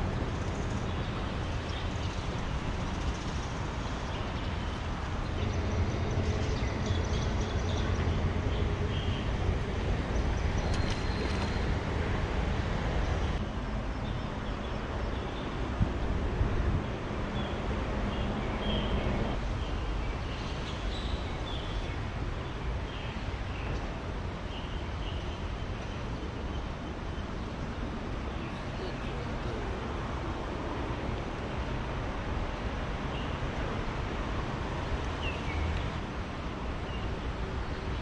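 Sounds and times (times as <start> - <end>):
traffic rumble overhead: 0.0 - 38.0.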